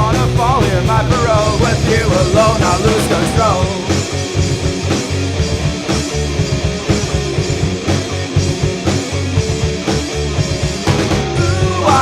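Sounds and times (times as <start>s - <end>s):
bass guitar: 0.0s - 12.0s
distorted electric guitar: 0.0s - 12.0s
drum kit: 0.0s - 12.0s.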